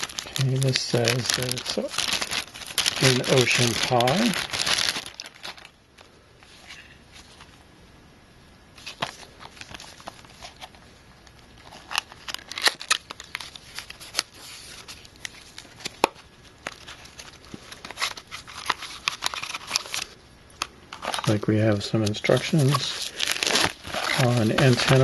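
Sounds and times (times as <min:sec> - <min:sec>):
packaging crinkling and scraping: 0:00.0 - 0:05.7, 0:08.8 - 0:25.0.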